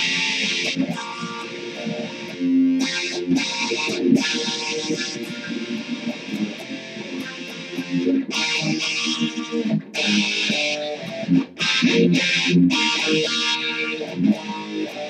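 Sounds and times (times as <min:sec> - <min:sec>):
electric guitar picked notes: 0:00.0 - 0:15.0
electric guitar strummed chords: 0:00.0 - 0:15.0.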